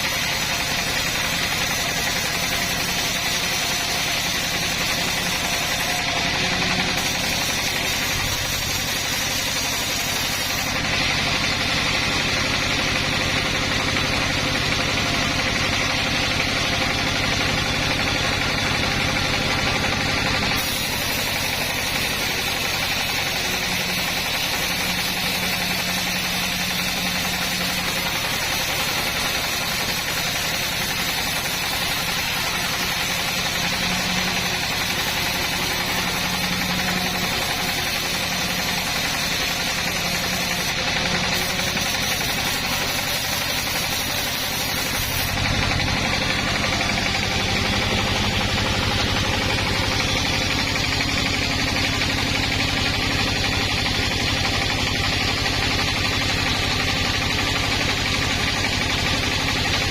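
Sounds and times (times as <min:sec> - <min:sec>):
dense mechanical noise: 0:00.0 - 0:59.9
sawmill engine running: 0:00.0 - 0:59.9.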